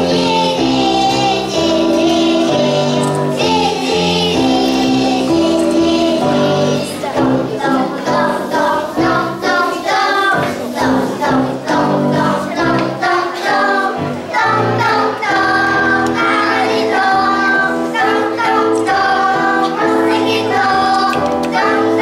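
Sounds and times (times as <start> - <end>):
children singing in unison: 0.0 - 22.0
instrumental accompaniment: 0.0 - 22.0.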